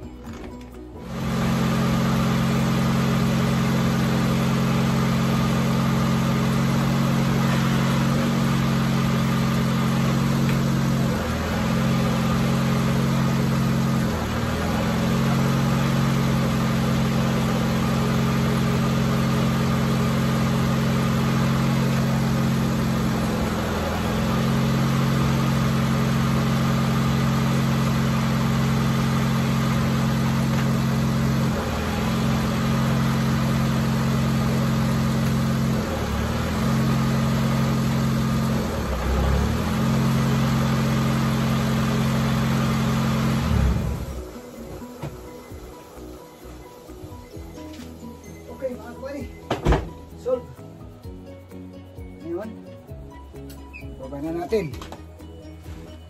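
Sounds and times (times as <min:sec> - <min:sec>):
car engine idling: 0:00.7 - 0:55.8.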